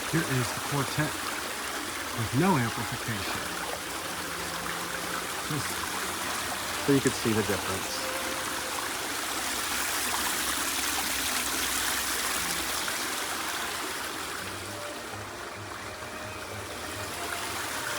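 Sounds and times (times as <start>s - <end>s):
running water rushing: 0.0s - 17.9s.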